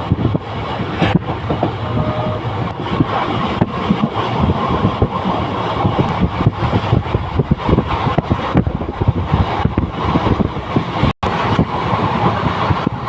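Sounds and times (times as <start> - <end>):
train rumbling: 0.0 - 13.0
wheels clattering on rails: 0.0 - 13.0.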